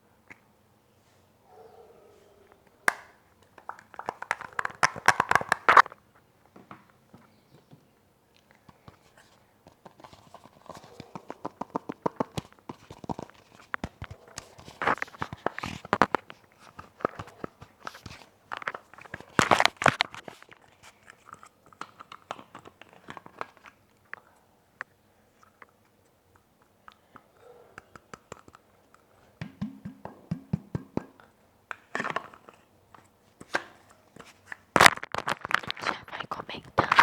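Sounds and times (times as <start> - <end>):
crackling on headset microphone: 2.5 - 37.0.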